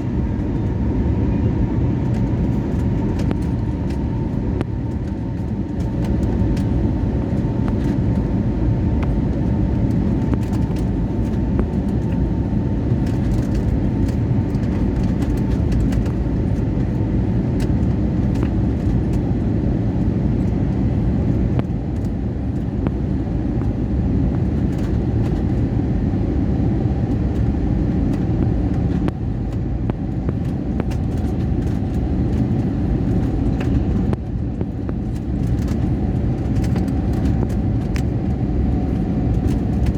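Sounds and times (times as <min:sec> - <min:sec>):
airliner engines rumbling: 0:00.0 - 0:39.9
faint engine whine: 0:00.0 - 0:39.9.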